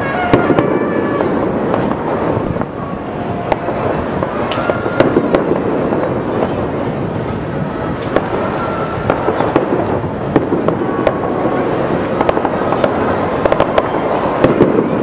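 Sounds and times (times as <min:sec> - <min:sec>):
continuous rumble: 0:00.0 - 0:15.0
fireworks popping and banging: 0:00.0 - 0:15.0.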